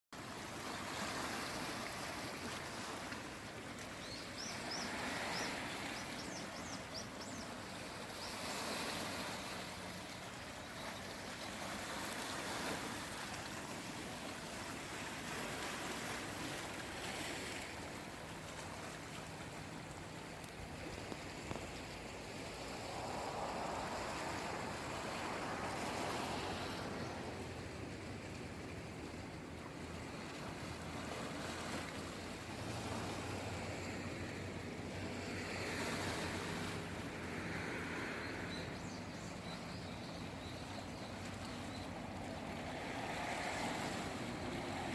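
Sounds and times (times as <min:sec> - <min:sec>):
small waves washing onto shore: 0:00.2 - 0:44.9.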